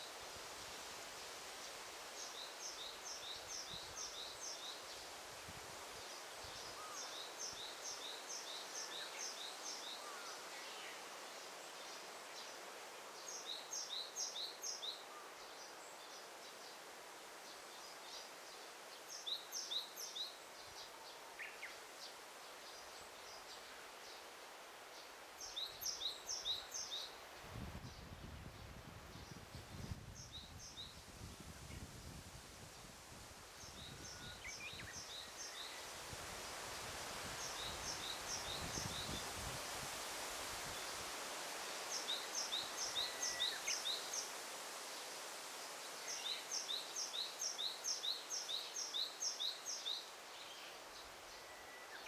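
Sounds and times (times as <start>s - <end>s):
leaves rustling in breeze: 0.0s - 52.0s
songbird singing: 1.6s - 5.2s, 6.0s - 32.8s, 33.5s - 39.6s, 40.5s - 52.0s.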